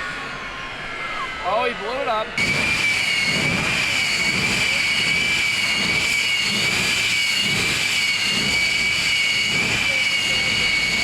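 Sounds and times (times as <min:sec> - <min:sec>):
jet engine whine: 0:00.0 - 0:11.0.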